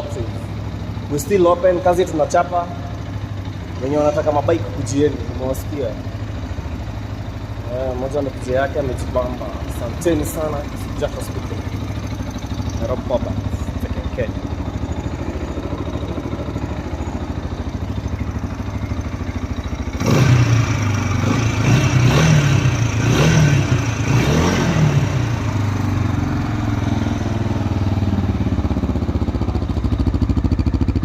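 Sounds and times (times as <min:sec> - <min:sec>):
motorcycle engine idling and revving: 0:00.0 - 0:31.0.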